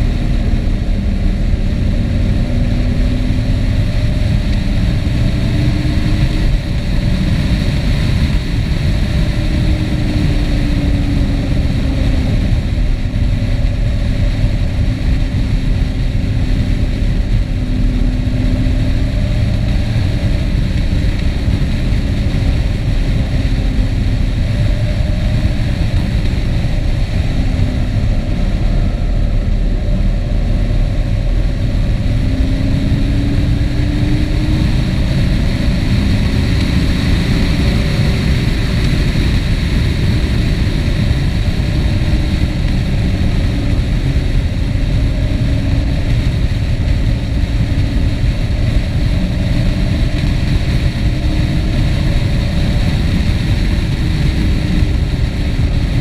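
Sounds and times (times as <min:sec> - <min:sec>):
vehicle engine: 0:00.0 - 0:56.0
wind and road noise: 0:00.0 - 0:56.0.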